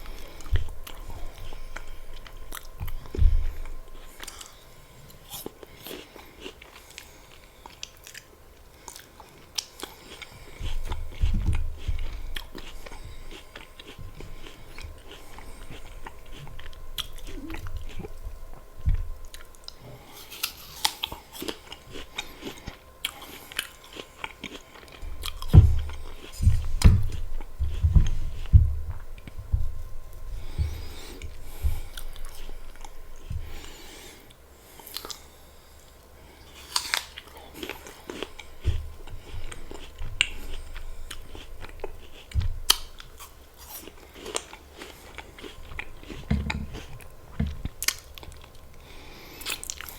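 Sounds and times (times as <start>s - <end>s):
crunching apple: 0.0s - 34.0s, 36.5s - 48.6s
low chewing thuds: 0.0s - 49.9s.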